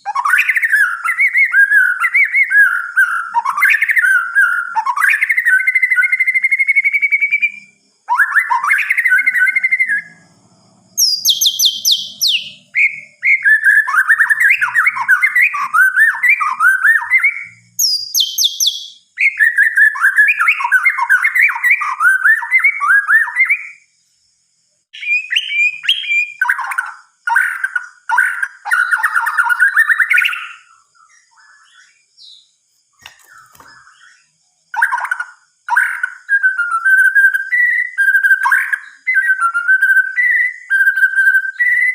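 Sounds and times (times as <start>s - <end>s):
high falling whistles: 0.0s - 23.9s, 24.9s - 27.9s, 33.1s - 41.9s
songbird singing: 0.0s - 41.9s.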